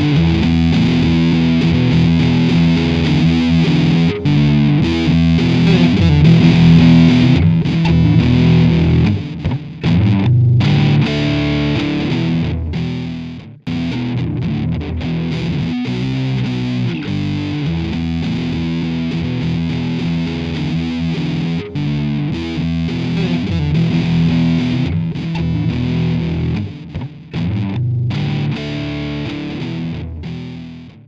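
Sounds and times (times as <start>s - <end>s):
distorted electric guitar music: 0.0s - 31.0s.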